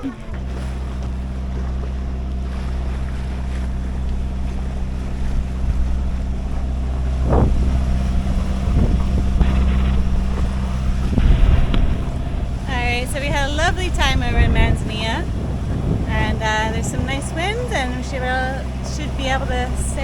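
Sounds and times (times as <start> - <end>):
boat engine running: 0.0 - 20.0
wind noise on microphone: 0.0 - 20.0.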